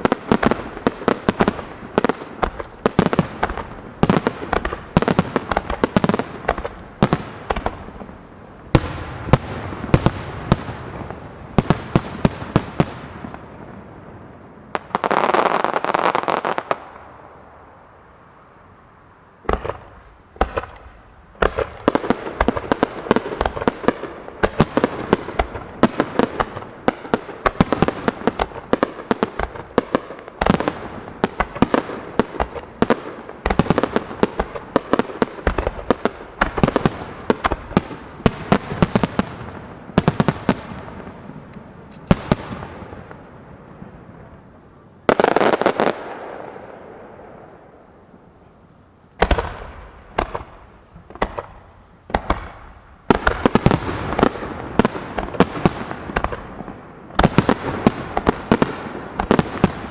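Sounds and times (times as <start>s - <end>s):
fireworks bursting: 0.0s - 17.7s, 19.4s - 48.5s, 49.1s - 59.9s
fireworks crackling: 0.0s - 59.9s.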